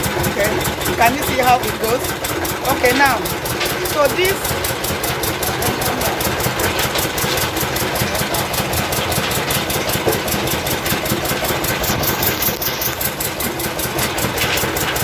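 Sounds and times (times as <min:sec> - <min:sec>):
milling machine engine beating: 0:00.0 - 0:15.0.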